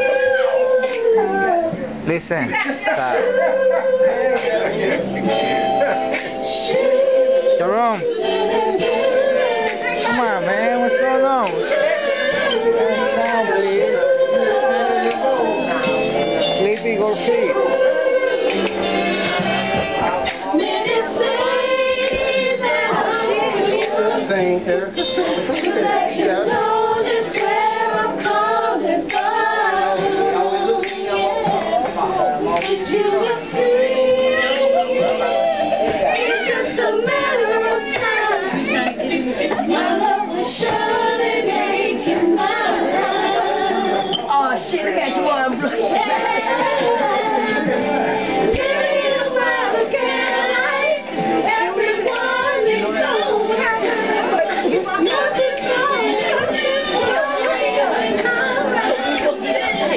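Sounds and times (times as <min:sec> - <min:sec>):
background music: 0:00.0 - 0:59.9
voices singing in harmony: 0:00.0 - 0:59.9.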